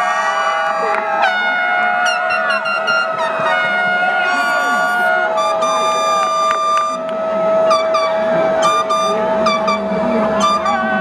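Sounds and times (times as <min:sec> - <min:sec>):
concert band long held note: 0:00.0 - 0:11.0
short accented brass notes: 0:00.2 - 0:10.9.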